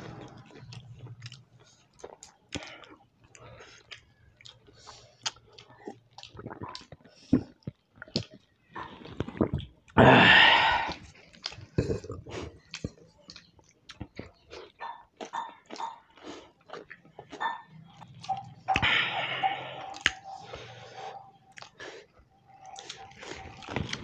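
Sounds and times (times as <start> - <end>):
chewing and wet mouth clicks: 0.1 - 9.9, 10.9 - 19.0, 19.8 - 20.8, 21.5 - 24.0.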